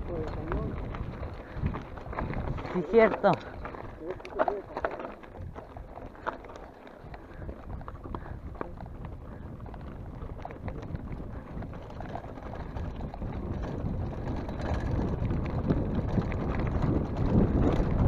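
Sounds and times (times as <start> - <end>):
bike rattling: 0.0 - 18.0
tyres crunching on stones: 0.0 - 18.0
wind rumble on microphone: 0.0 - 18.0.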